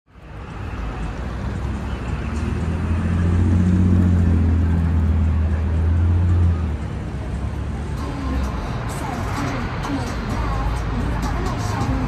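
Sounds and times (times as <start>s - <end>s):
city street noise: 0.1s - 12.0s
vehicle engine rumble: 0.1s - 12.0s.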